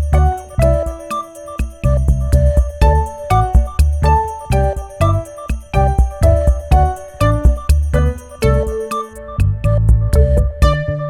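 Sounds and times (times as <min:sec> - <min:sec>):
bright tinkly instrumental music: 0:00.0 - 0:10.9.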